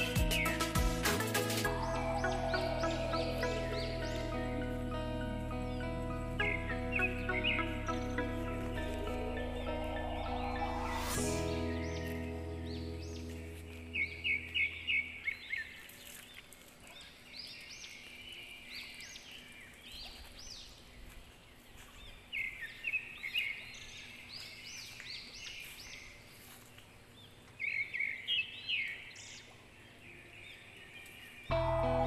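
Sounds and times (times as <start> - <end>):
faint outdoor background: 0.0 - 32.0
wild birds chirping: 0.0 - 32.0.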